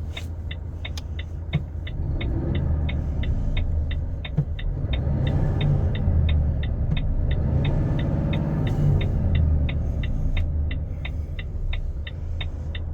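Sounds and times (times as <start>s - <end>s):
diesel truck engine rumbling: 0.0s - 12.9s.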